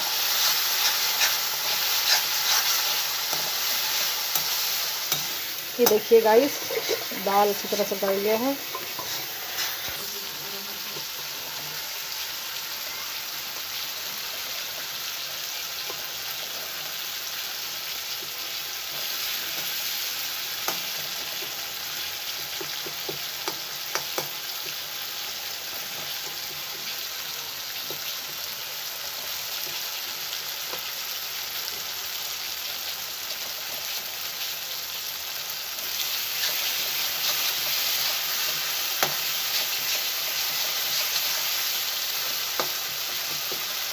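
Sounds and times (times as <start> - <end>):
sauce sizzling in hot oil: 0.0 - 43.9.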